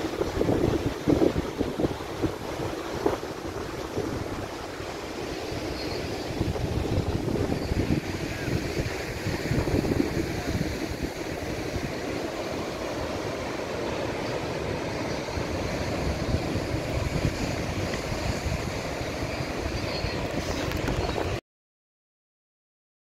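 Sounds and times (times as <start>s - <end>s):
surf breaking on rocky shore: 0.0s - 21.4s
wind buffeting microphone: 0.0s - 21.4s.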